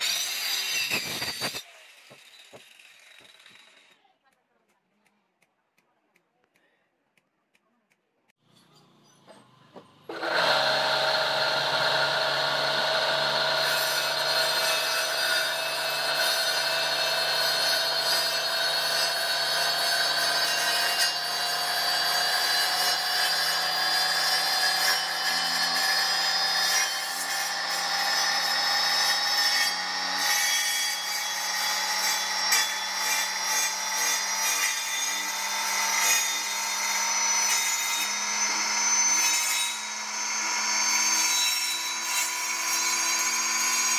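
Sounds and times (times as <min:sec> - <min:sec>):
circular saw whining: 0:00.0 - 0:04.0, 0:08.5 - 0:43.9
saw cutting wood: 0:00.0 - 0:04.1, 0:08.5 - 0:43.9.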